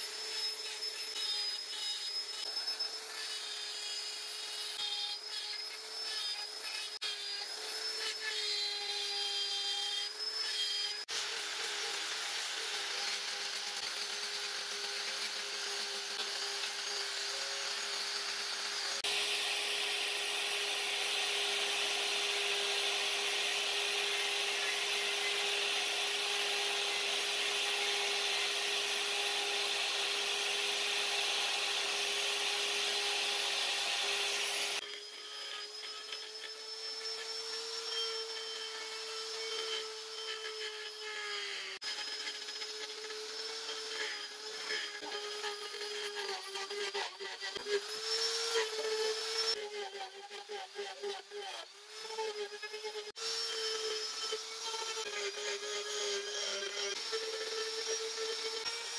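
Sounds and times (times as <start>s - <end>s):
rotary tool grinding wood: 0.0s - 58.9s.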